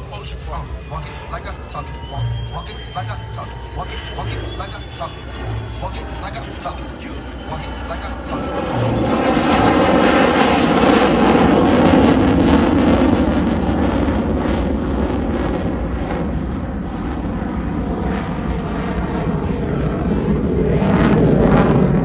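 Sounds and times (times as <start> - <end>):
fighter jet engine flying by: 0.0 - 22.0.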